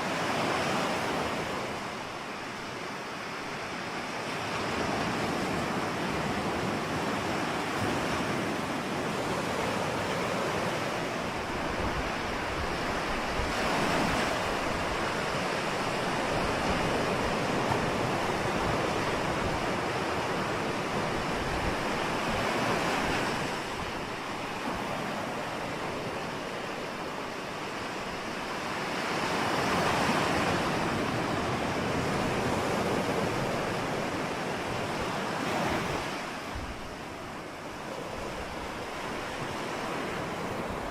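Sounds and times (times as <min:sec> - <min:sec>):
ocean waves breaking: 0:00.0 - 0:40.9
wind on microphone: 0:00.0 - 0:40.9.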